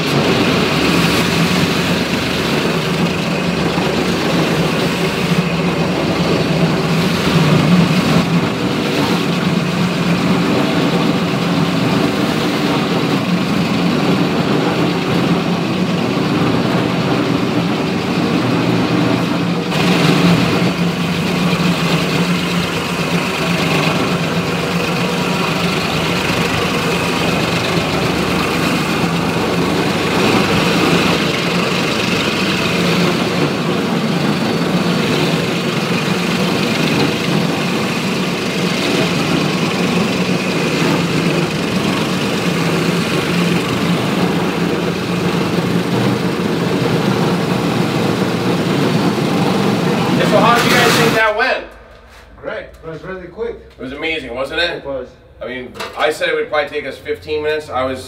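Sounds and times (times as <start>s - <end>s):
floor grinder drone: 0.0s - 52.8s.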